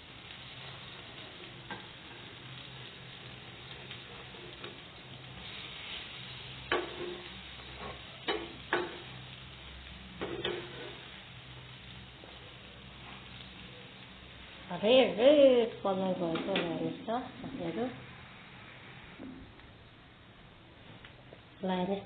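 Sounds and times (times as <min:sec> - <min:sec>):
bread sizzling in a pan: 0:00.0 - 0:22.0.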